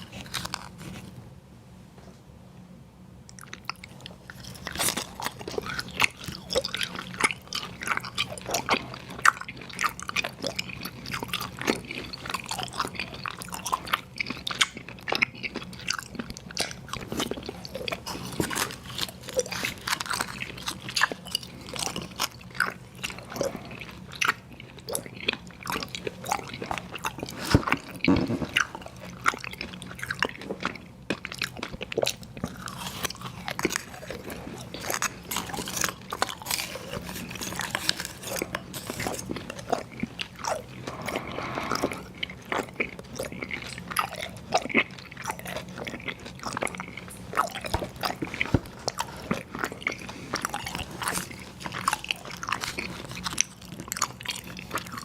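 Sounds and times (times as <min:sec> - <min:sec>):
chewing and crunching: 0:00.0 - 0:01.2, 0:03.3 - 0:55.0.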